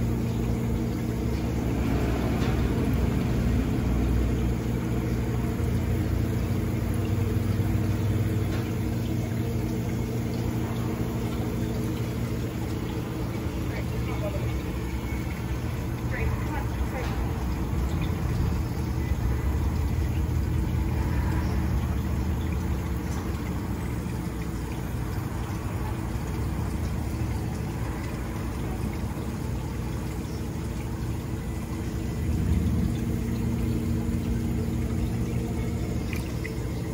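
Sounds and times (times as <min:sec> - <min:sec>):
faint watery wash: 0:00.0 - 0:36.9
low mechanical hum: 0:00.0 - 0:36.9.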